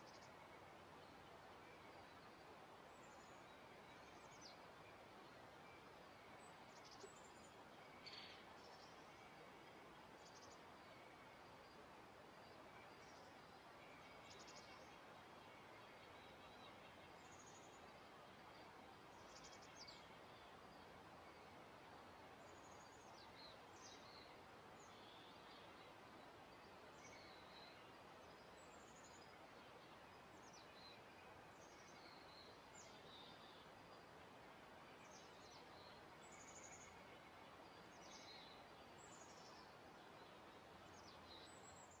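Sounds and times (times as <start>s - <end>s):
faint birds chirping: 0.0s - 42.0s
soft steady hiss: 0.0s - 42.0s.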